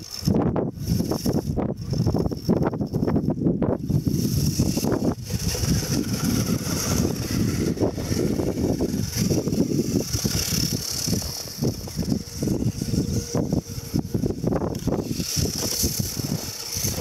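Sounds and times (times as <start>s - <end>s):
electric motor and gear whine: 0.0s - 17.0s
rough low rumble: 2.1s - 17.0s.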